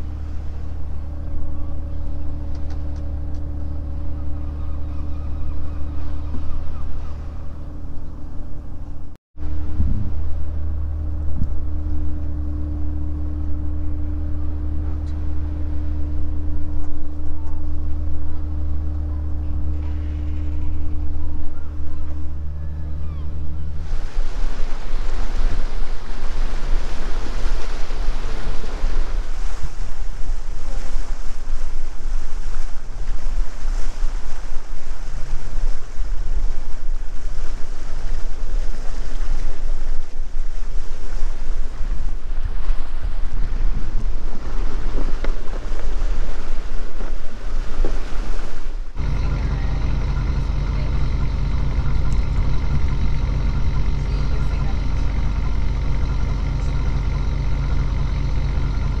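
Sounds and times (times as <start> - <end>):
wind buffeting microphone: 0.0 - 22.6, 23.4 - 59.0
boat diesel engine humming: 0.0 - 59.0
water rushing along hull: 0.0 - 59.0.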